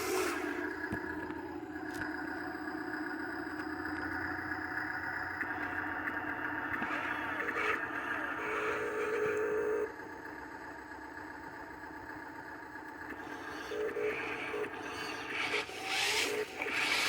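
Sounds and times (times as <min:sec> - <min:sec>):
dump truck engine running: 0:00.0 - 0:17.0.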